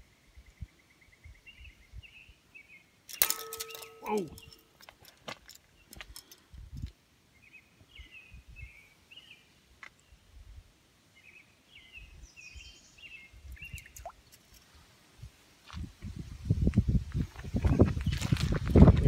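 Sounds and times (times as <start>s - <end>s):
songbird singing chirpy notes: 0.0s - 14.9s, 17.4s - 18.9s.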